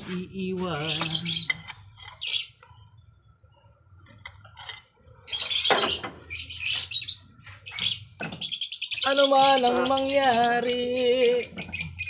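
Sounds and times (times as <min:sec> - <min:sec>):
bird chirping: 0:00.7 - 0:12.0.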